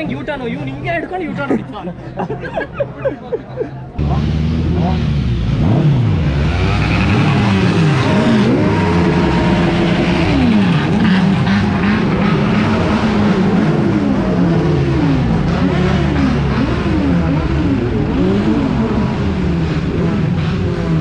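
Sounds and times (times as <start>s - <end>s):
motorcycle engines revving: 4.0s - 21.0s.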